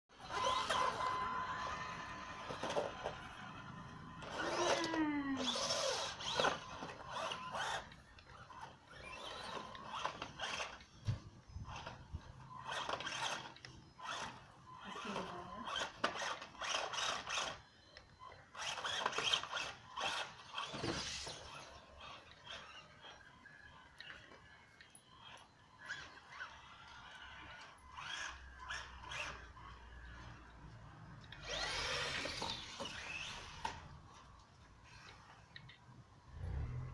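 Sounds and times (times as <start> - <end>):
small electric motors whining: 0.1 - 36.9.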